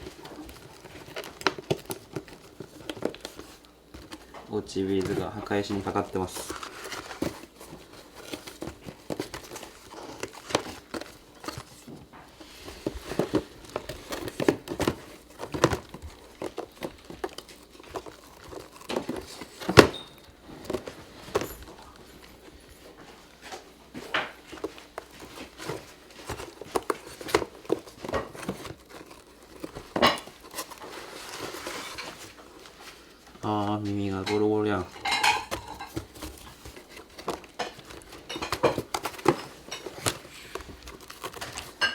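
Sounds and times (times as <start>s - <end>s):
cats scratching and tearing box: 0.0s - 41.9s.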